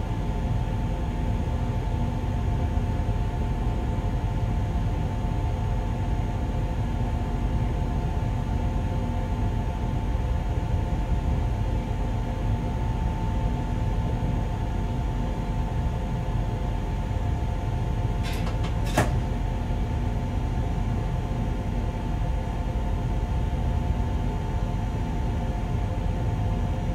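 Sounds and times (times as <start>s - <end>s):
two-tone electrical hum: 0.0s - 26.9s.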